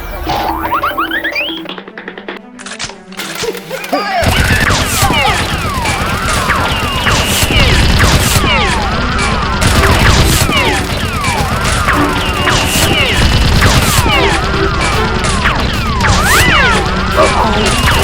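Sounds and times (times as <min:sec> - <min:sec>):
rapid gunfire: 0:03.2 - 0:18.0.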